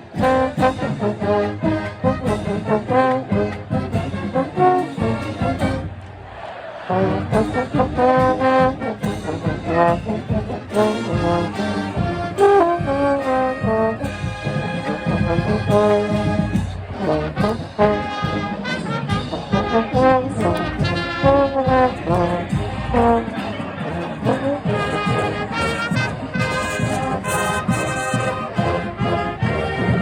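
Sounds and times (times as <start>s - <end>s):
brass chords: 0.0s - 30.0s
marching drums: 0.0s - 30.0s.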